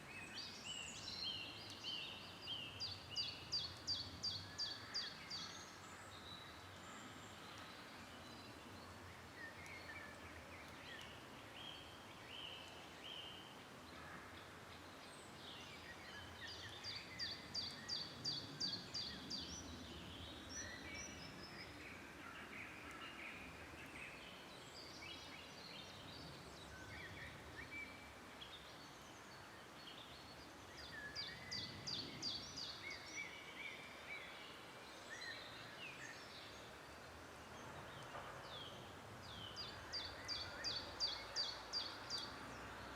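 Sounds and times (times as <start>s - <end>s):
bird song of quick repeated notes: 0.0s - 42.9s
faint background hiss: 0.0s - 42.9s
songbirds singing: 0.0s - 42.9s.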